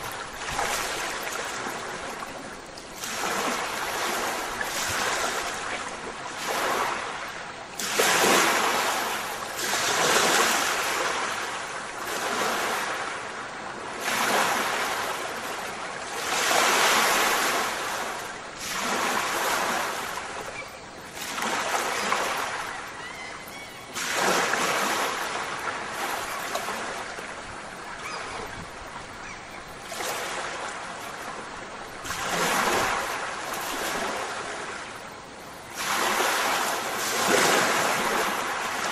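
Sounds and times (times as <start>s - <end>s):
ocean waves washing in: 0.0s - 23.0s, 23.9s - 38.9s.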